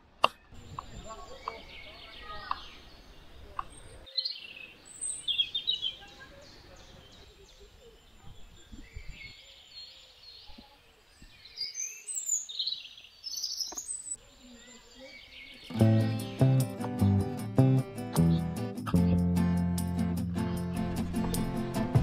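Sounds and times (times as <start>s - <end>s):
faint outdoor background noise: 0.0s - 22.0s
birds chirping and singing: 0.2s - 22.0s.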